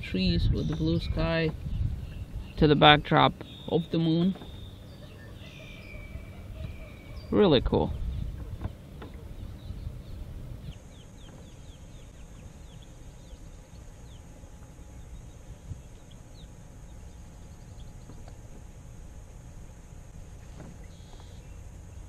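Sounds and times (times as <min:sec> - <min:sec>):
low steady rumble: 0:00.0 - 0:22.0
small birds chirping: 0:00.2 - 0:18.6, 0:20.3 - 0:22.0.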